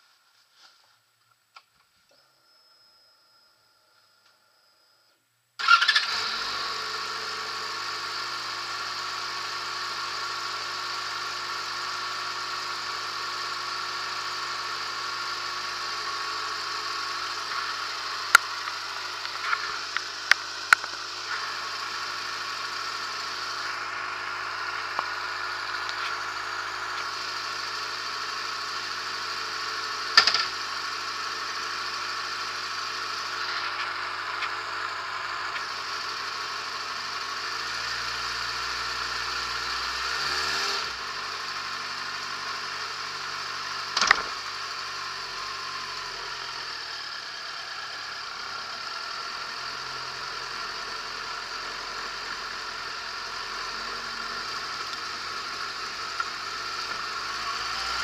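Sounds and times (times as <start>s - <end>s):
motorcycle engine starting and idling: 5.6s - 58.0s.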